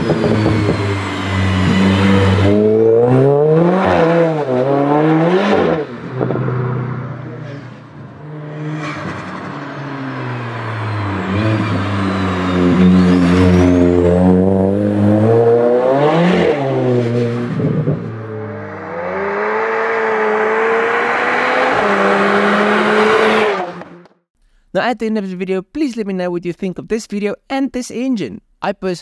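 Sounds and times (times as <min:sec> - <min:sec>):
car engine accelerating: 0:00.0 - 0:24.2.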